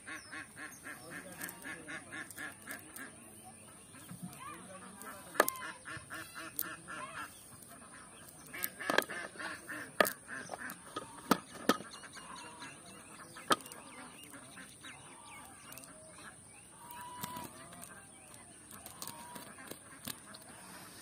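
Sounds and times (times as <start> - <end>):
birds calling: 0.0 - 21.0.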